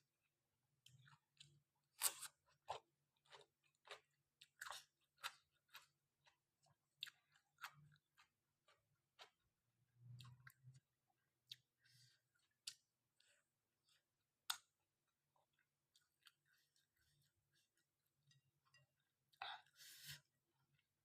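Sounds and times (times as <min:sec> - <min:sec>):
person chewing food: 0:00.8 - 0:21.0.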